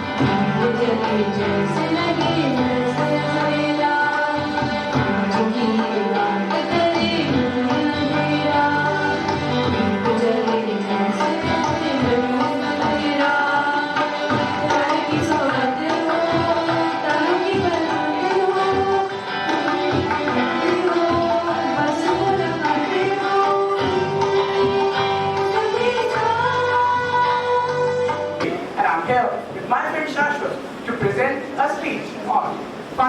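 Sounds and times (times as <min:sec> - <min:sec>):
tabla drumming: 0:00.0 - 0:33.0.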